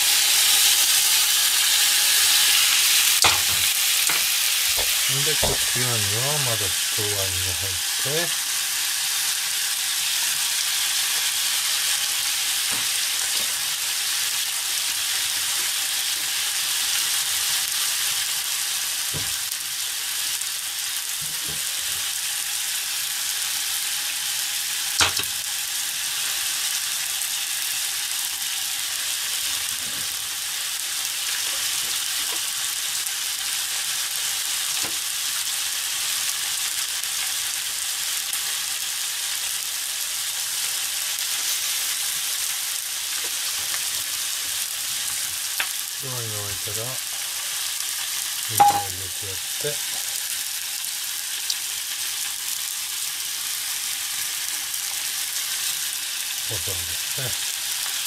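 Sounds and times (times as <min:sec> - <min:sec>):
wine sizzling in a frying pan: 0:00.0 - 0:58.0.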